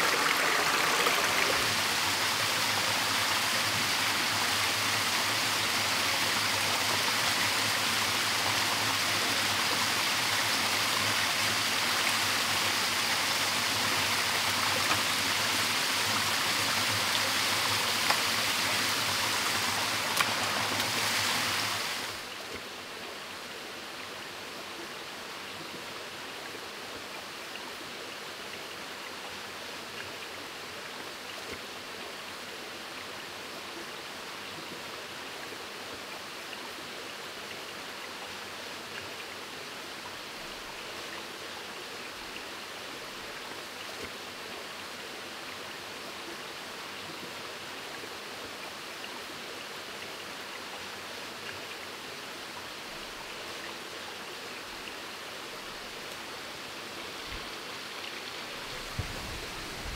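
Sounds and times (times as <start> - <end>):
distant running water: 0.0 - 59.9
waterfall and stream rushing: 0.0 - 59.9.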